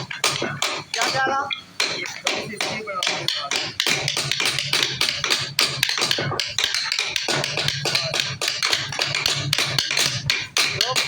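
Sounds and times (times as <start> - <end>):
rapid tapping on wood: 0.0 - 11.0.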